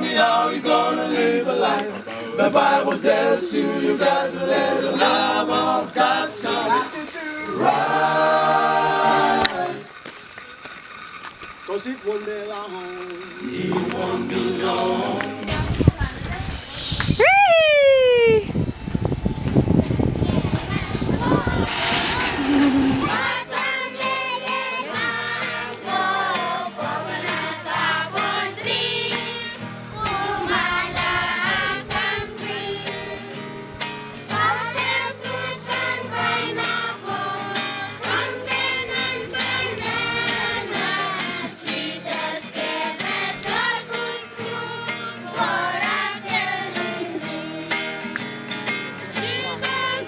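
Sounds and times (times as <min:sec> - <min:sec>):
choir singing over a steady beat: 0:00.0 - 0:11.0, 0:12.2 - 0:17.2, 0:18.9 - 0:50.0.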